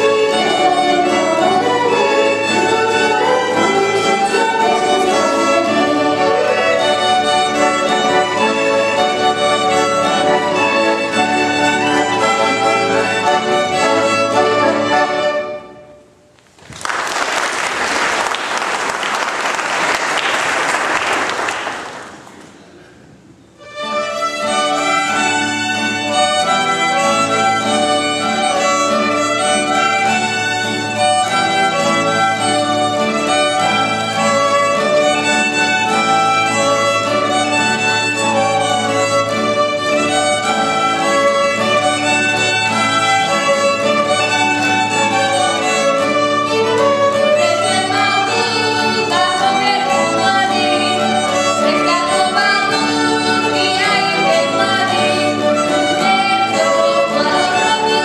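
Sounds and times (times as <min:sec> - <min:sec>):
violins playing melody: 0:00.0 - 0:16.0, 0:23.6 - 0:58.0
accordion: 0:00.0 - 0:16.1, 0:23.6 - 0:58.0
acoustic guitar: 0:00.0 - 0:16.8, 0:17.7 - 0:58.0.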